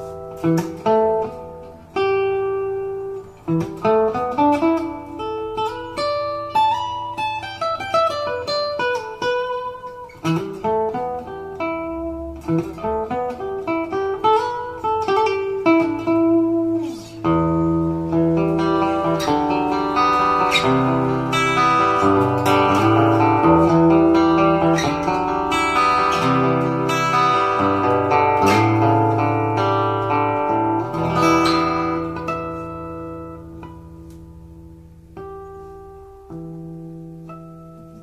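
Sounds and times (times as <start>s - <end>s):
acoustic guitar chords: 0.0s - 38.0s.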